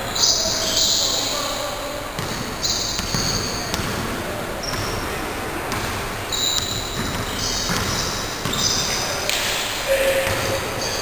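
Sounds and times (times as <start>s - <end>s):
basketball bouncing on court: 2.2s - 11.0s
players' feet on court: 2.2s - 11.0s.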